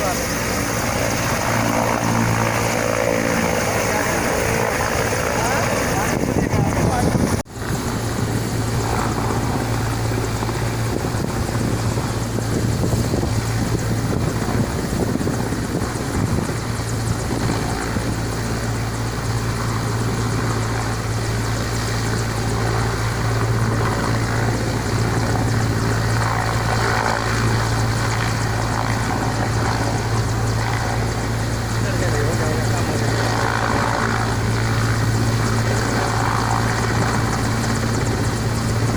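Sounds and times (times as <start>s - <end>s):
engine and rotor noise: 0.0s - 38.9s
helicopter rotor hum: 0.0s - 38.9s.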